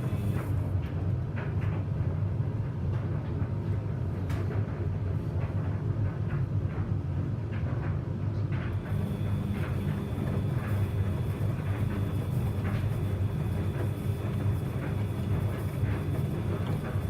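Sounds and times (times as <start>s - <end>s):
washing machine drum rumbling: 0.0s - 17.0s.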